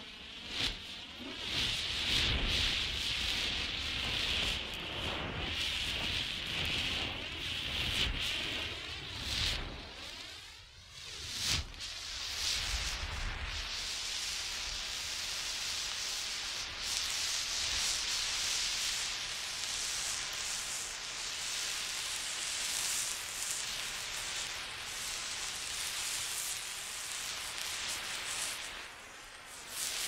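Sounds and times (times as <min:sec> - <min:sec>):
road flare hissing: 0:00.2 - 0:30.0.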